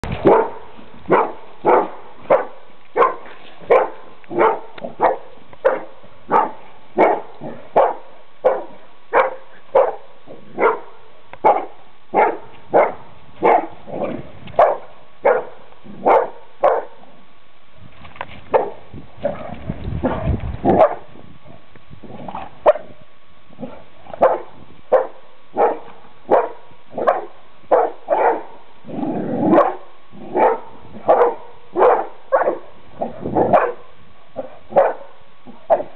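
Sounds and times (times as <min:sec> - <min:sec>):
dogs barking: 0:00.2 - 0:17.0, 0:18.5 - 0:18.8, 0:20.0 - 0:21.2, 0:23.6 - 0:28.6, 0:29.4 - 0:35.9.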